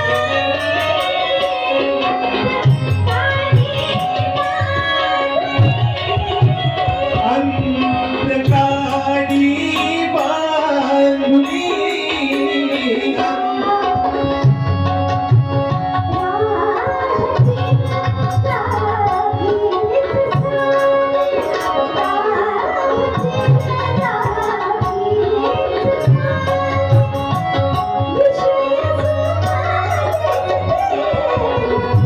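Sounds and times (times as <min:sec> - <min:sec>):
tabla rhythm: 0:00.0 - 0:32.0.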